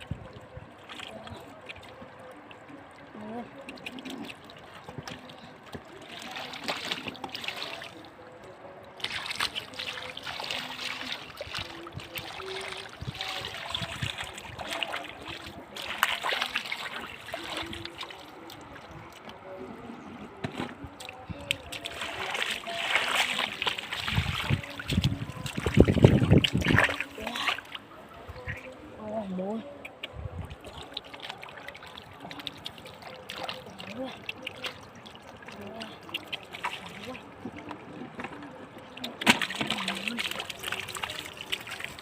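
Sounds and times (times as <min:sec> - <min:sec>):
water splashing and trickling: 0:00.0 - 0:42.0.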